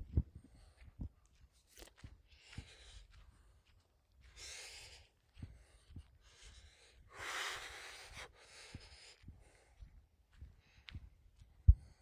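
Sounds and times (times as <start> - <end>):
person breathing: 0.2 - 1.4, 2.1 - 12.0.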